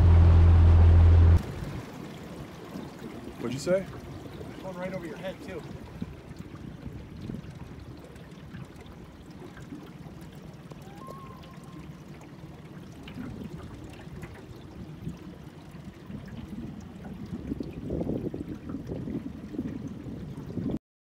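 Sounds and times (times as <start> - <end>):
low background rumble: 0.0 - 20.5
water lapping against boat hull: 1.4 - 20.8.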